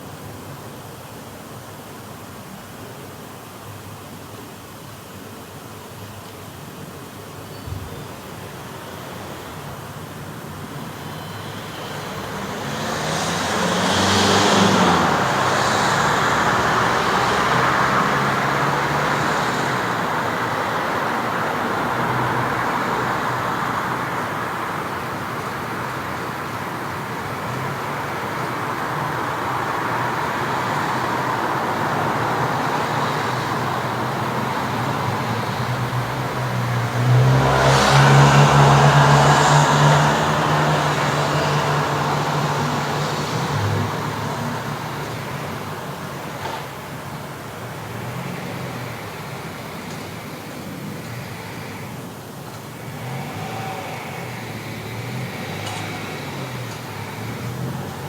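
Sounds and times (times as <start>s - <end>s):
cars going by: 7.8s - 58.0s.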